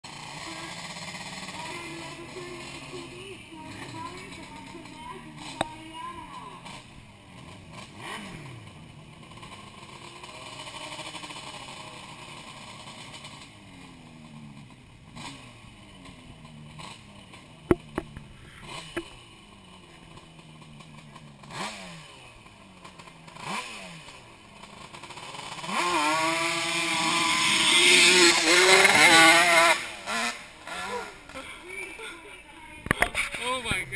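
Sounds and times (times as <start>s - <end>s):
distant engines revving: 0.0s - 33.9s
quad engine revving hard: 0.0s - 33.9s.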